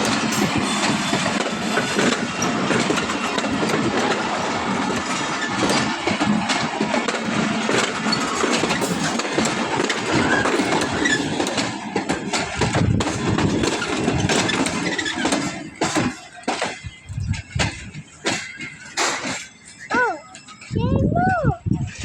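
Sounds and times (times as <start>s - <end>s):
train clattering on rails: 0.0s - 22.0s.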